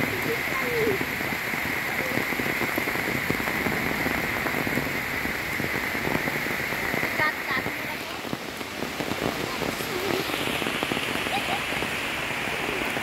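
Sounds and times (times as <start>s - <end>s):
heavy rain on leaves: 0.0s - 13.0s.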